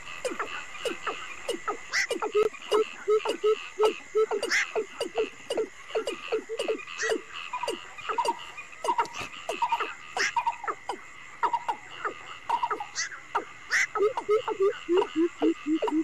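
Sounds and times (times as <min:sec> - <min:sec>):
crickets droning: 0:00.0 - 0:16.0
frogs calling: 0:00.0 - 0:16.0.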